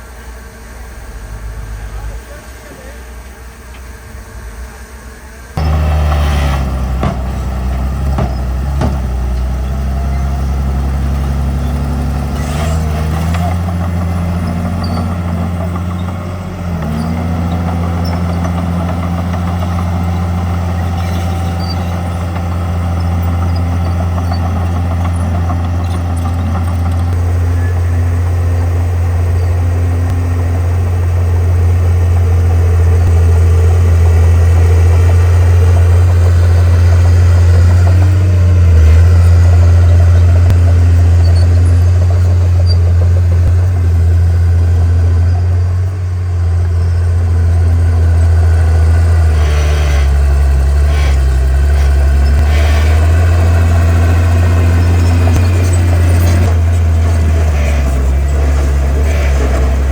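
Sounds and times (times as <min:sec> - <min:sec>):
bulldozer diesel engine droning: 0:00.0 - 0:59.9.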